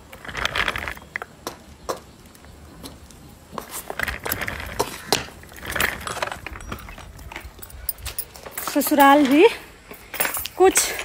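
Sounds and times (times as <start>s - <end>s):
heels clicking on concrete: 0.1s - 11.0s.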